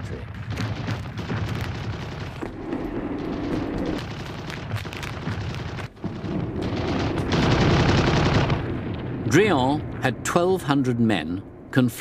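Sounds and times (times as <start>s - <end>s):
rumble of explosions and shellfire: 0.0s - 12.0s
sharp gunshots: 0.2s - 9.9s.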